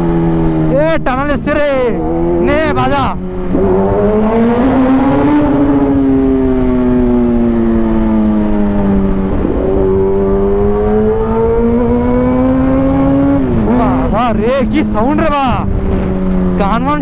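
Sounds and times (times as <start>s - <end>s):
low wind rush: 0.0s - 17.0s
motorcycle engine revving: 0.0s - 17.0s.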